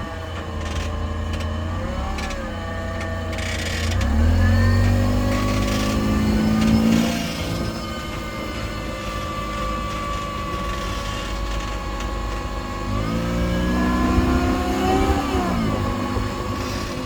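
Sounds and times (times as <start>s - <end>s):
car engine accelerating: 0.0s - 17.0s
low road rumble: 0.0s - 17.0s.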